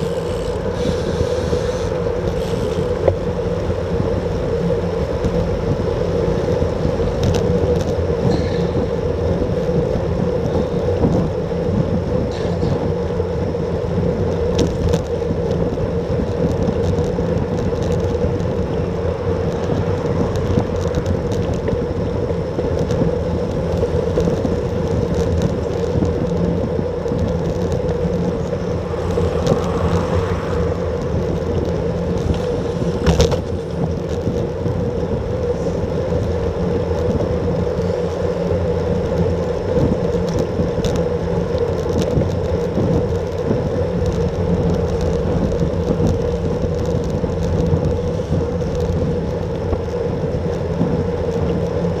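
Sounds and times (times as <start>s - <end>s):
bike road noise: 0.0s - 52.0s
wind noise: 0.0s - 52.0s.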